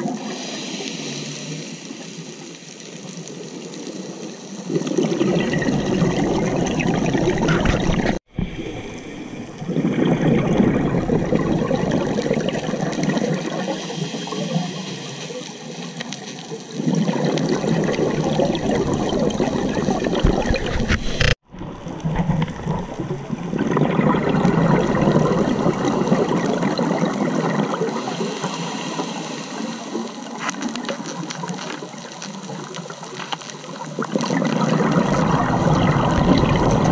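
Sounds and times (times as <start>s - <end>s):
underwater bubbling: 0.0s - 36.9s.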